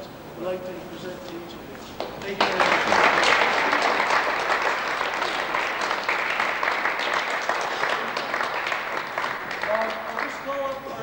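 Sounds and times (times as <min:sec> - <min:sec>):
people applauding: 0:02.0 - 0:11.0.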